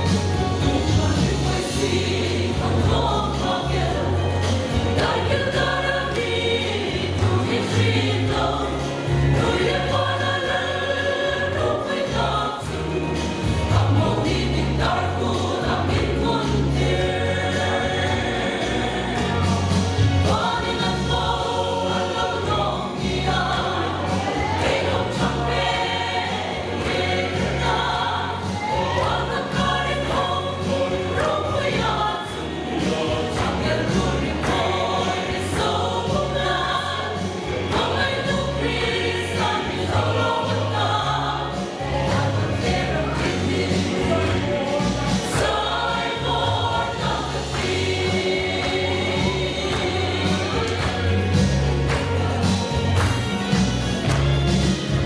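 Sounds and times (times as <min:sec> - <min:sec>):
mixed choir singing a hymn: 0:00.0 - 0:55.0.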